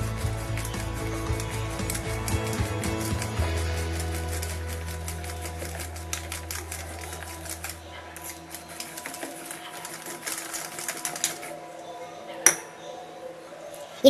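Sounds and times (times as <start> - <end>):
whisk clicking in metal bowl: 0.0 - 11.6.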